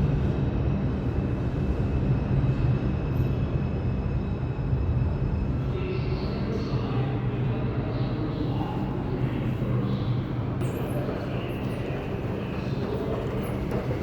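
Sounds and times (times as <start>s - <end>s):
subway station rumble and hum: 0.0s - 14.0s.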